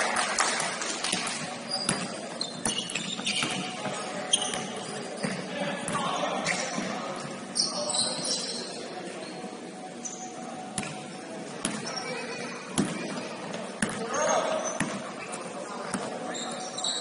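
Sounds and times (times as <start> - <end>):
sneakers squeaking: 1.1 - 17.0.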